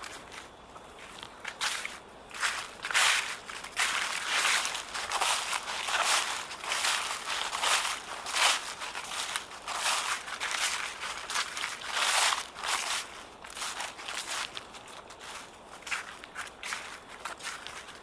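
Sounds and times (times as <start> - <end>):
footsteps crunching dry leaves: 0.0 - 18.0.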